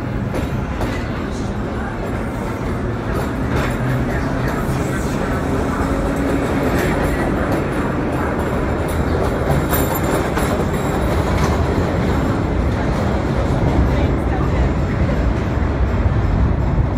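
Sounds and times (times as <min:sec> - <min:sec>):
steel wheels on track: 0:00.0 - 0:16.9.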